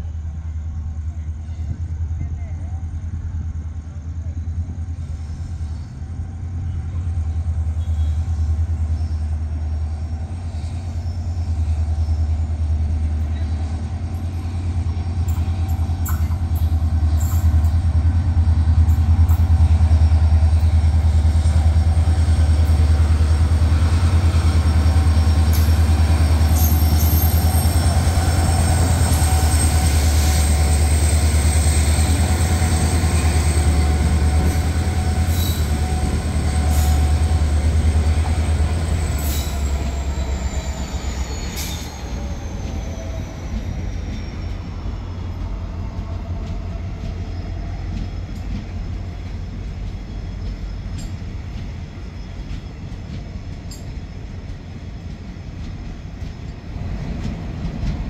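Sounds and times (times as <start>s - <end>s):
diesel locomotive engine rumble: 0.0s - 58.0s
train wheel squeal: 4.7s - 58.0s.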